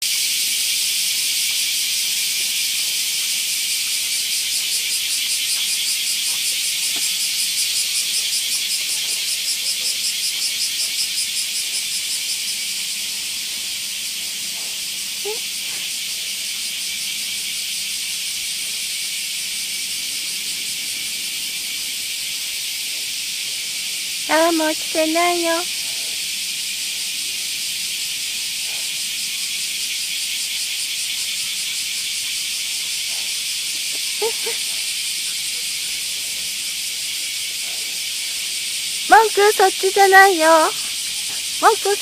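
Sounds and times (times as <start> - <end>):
cicadas droning: 0.0 - 42.0.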